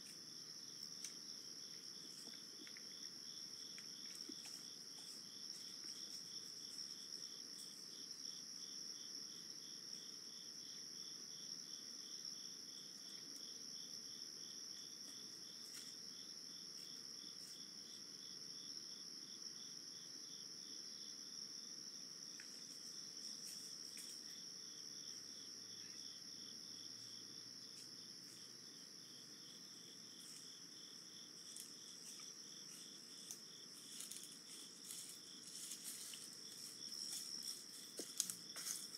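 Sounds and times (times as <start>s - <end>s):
high cricket trill: 0.0s - 38.9s
lower pulsing cricket song: 0.0s - 38.9s.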